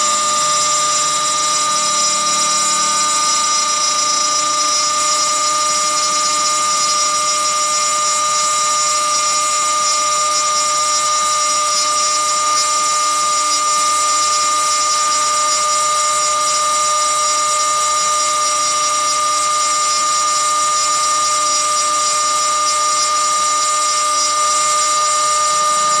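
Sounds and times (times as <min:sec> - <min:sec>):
router spindle cutting aluminum whine: 0:00.0 - 0:26.0.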